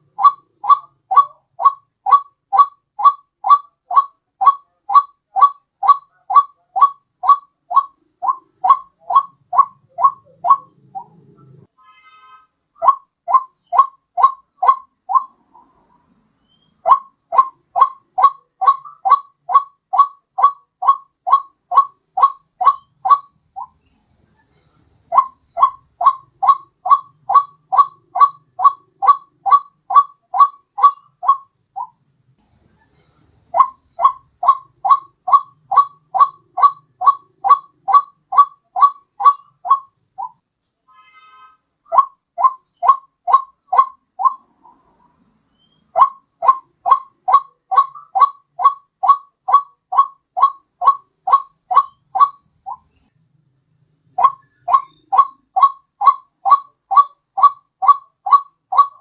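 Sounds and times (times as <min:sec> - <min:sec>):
waterhen calls: 0:00.0 - 0:12.1, 0:12.8 - 0:15.8, 0:16.4 - 0:23.9, 0:25.1 - 0:32.0, 0:33.4 - 0:40.4, 0:41.0 - 0:53.1, 0:54.1 - 0:59.0.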